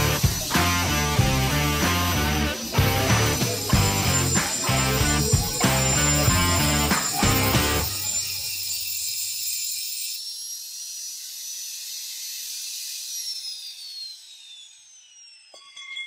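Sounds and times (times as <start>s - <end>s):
electric motor whining: 0.0s - 15.8s.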